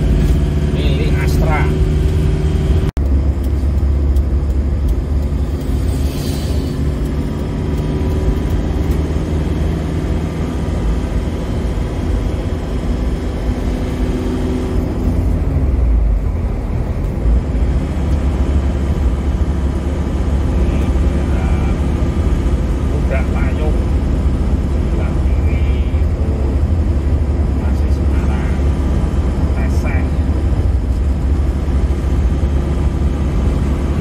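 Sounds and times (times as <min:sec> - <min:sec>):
diesel engine droning: 0:00.0 - 0:34.0
tyre and road noise: 0:00.0 - 0:34.0.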